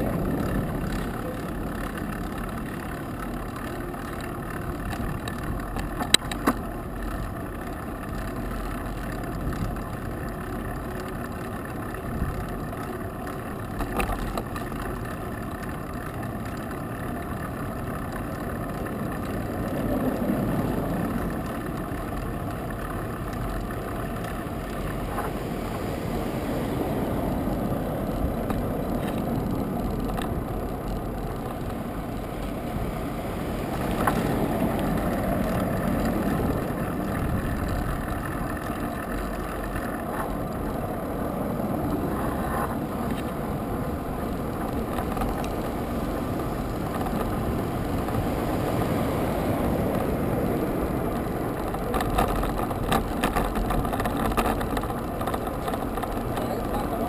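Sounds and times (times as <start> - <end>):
broad low noise: 0.0 - 57.0
wind and road noise: 0.0 - 57.0.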